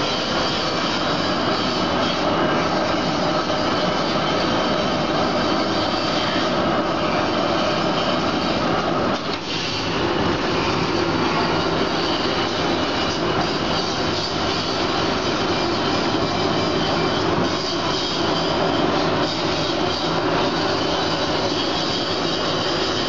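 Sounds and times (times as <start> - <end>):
machine fans rushing: 0.0 - 23.0.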